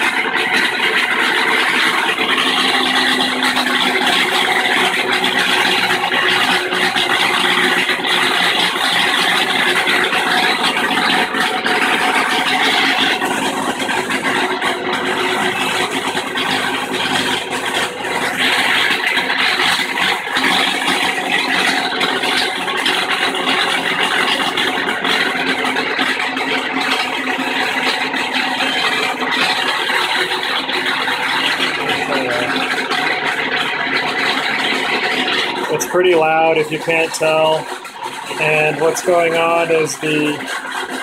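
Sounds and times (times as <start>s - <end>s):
washing machine spinning: 0.0s - 41.0s.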